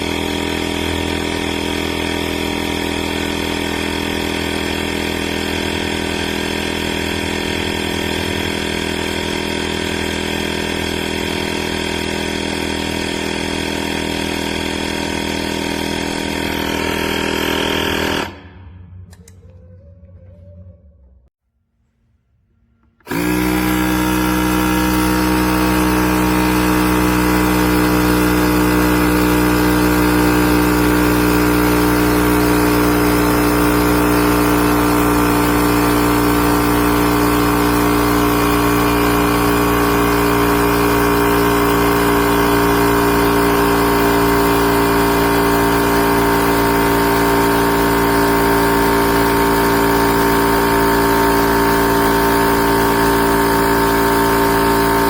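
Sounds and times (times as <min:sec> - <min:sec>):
tire inflator compressor running: 0:00.0 - 0:19.4, 0:22.8 - 0:55.0.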